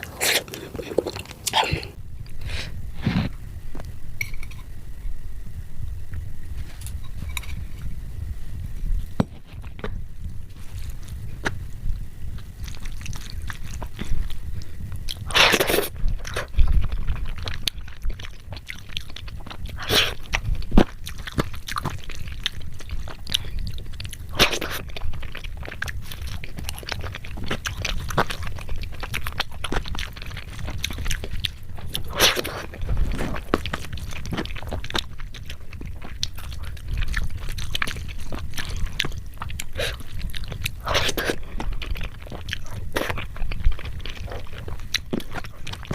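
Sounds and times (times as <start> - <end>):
person chewing crunchy food: 0.0 - 4.7, 9.0 - 45.9.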